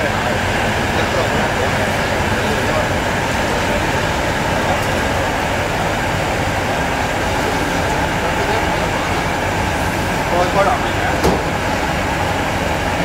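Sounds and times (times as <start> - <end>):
furnace mechanical rumble and hiss: 0.0 - 13.0.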